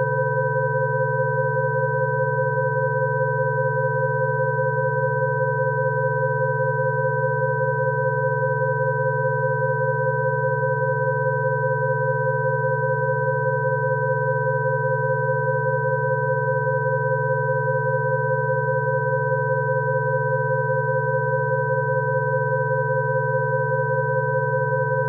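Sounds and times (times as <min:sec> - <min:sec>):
low hum-like sine tone: 0:00.0 - 0:25.0.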